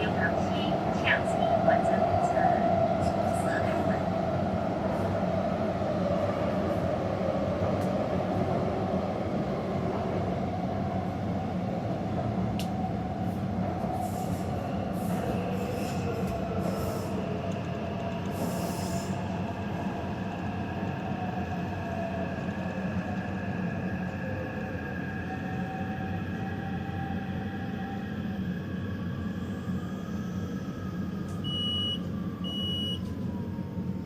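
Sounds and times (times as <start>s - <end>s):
train rumble and motor hum: 0.0s - 34.0s.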